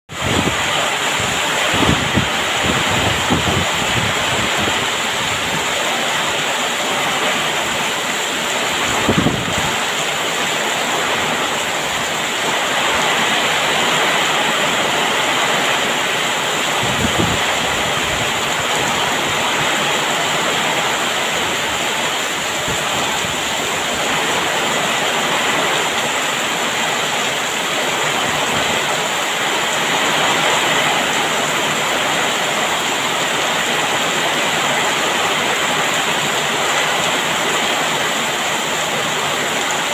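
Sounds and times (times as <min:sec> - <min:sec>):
heavy rain hissing: 0:00.1 - 0:39.9.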